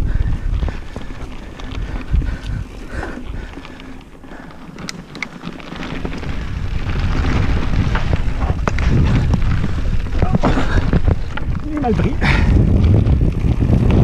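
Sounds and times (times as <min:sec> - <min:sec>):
bike rattling clicks and knocks: 0:00.0 - 0:14.0
wind rumbling on microphone: 0:00.0 - 0:14.0.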